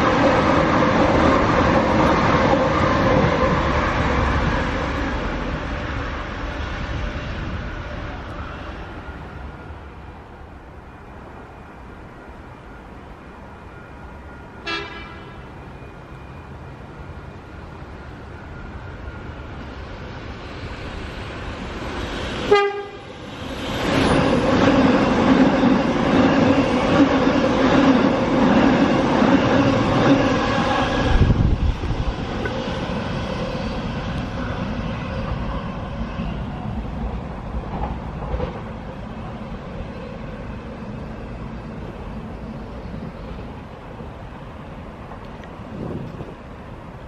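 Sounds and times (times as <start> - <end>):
steady train whine: 0.0 - 47.0
train wheels on rails: 0.0 - 47.0.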